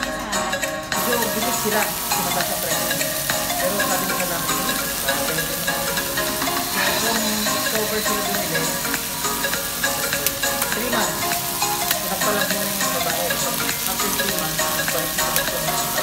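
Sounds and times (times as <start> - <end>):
background music: 0.0 - 16.0
chicken sizzling in a pan: 1.0 - 16.0.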